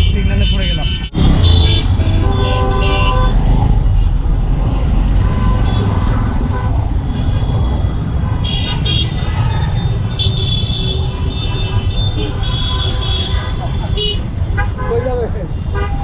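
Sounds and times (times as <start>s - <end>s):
vehicle horns honking: 0.0s - 3.4s, 5.2s - 16.0s
traffic engines rumbling: 0.0s - 16.0s.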